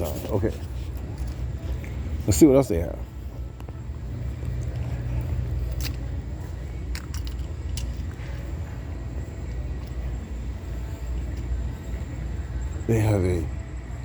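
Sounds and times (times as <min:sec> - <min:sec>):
handling rumble: 0:00.0 - 0:14.0.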